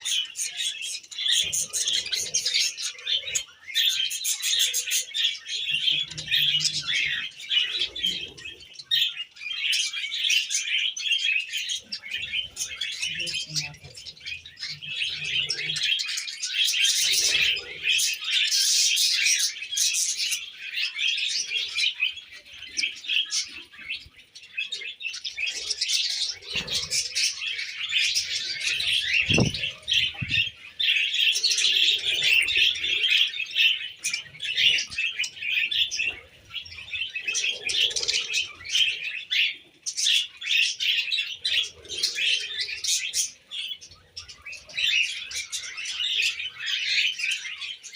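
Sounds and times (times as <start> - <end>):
budgerigars chirping and warbling: 0.0 - 47.9.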